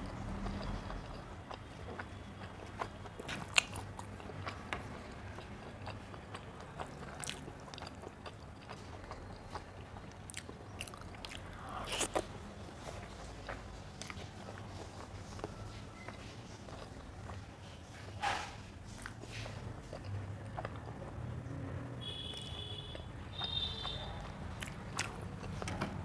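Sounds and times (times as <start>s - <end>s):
person chewing with mouth smacks: 0.0s - 21.4s, 22.1s - 26.0s.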